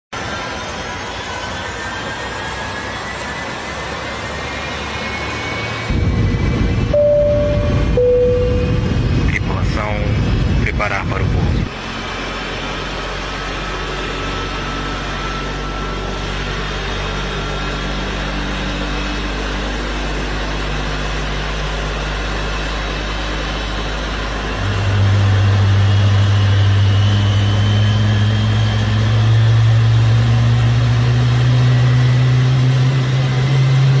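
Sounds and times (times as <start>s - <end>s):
engine drone: 0.2s - 34.0s.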